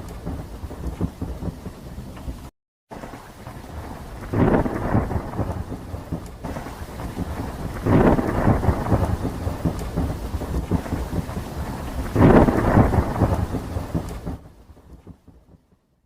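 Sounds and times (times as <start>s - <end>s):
thunderclaps rolling into rumble: 0.0s - 15.7s
steady rain: 0.0s - 16.0s.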